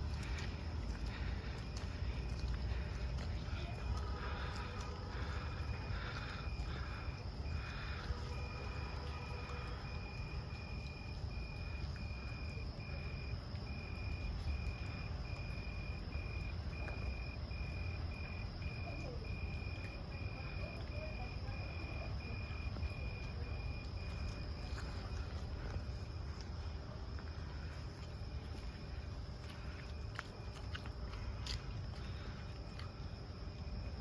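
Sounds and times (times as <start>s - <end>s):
cricket chirping: 0.0s - 34.0s
high insect trill: 0.0s - 34.0s
low background rumble: 0.0s - 34.0s.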